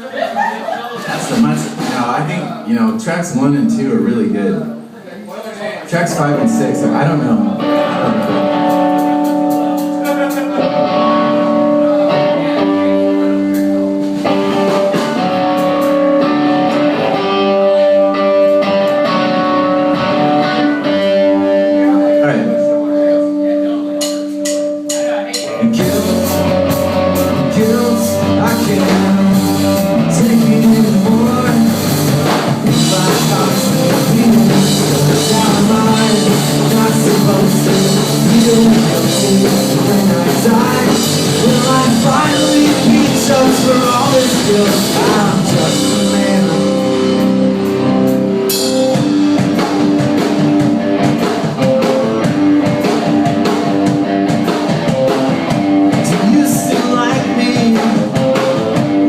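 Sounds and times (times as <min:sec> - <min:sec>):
rock band playing live: 0:00.0 - 0:05.0, 0:05.9 - 0:59.0.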